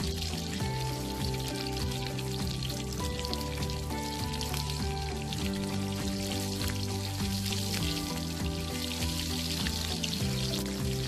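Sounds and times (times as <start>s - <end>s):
background music: 0.0s - 11.0s
food deep-frying in oil: 0.0s - 11.0s.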